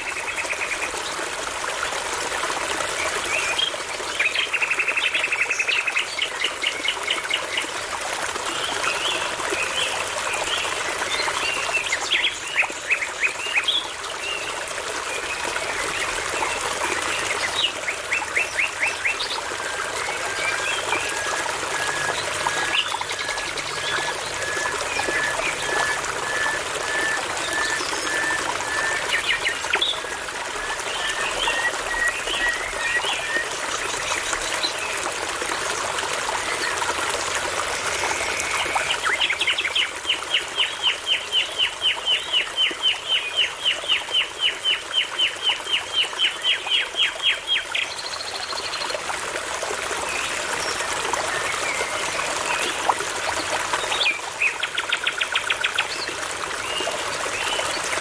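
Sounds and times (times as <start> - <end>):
brook trickling: 0.0 - 58.0.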